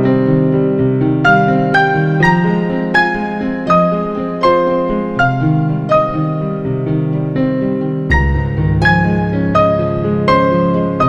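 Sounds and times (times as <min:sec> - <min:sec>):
gentle electric piano tune: 0:00.0 - 0:11.0.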